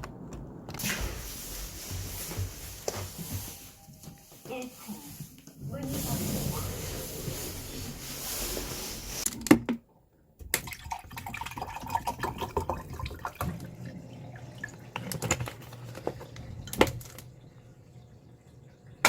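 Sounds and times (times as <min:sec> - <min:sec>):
water running and splashing: 0:00.8 - 0:09.3, 0:10.8 - 0:19.0.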